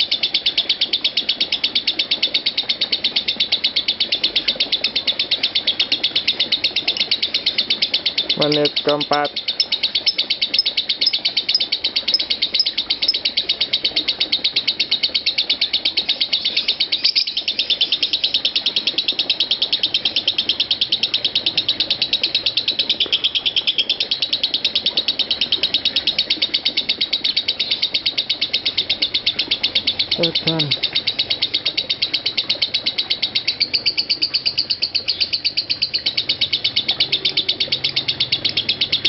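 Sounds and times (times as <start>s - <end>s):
lovebird chattering: 0.0s - 39.0s.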